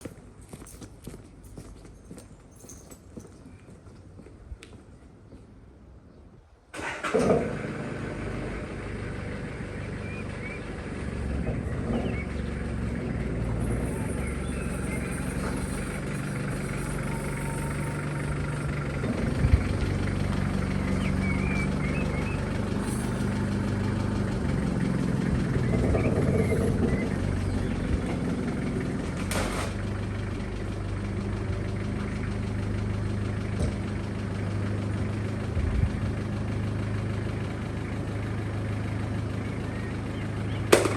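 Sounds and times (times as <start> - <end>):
car engine idling: 7.6 - 40.9.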